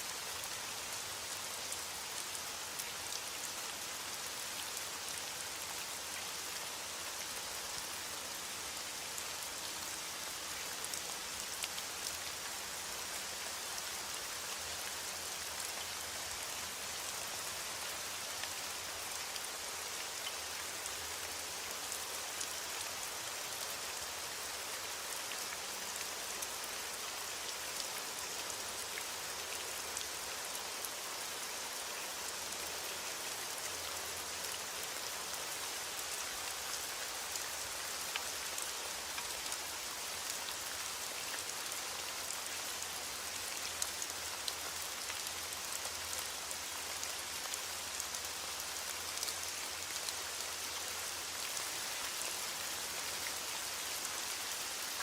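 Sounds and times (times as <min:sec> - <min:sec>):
steady rain on a hard surface: 0:00.0 - 0:55.0.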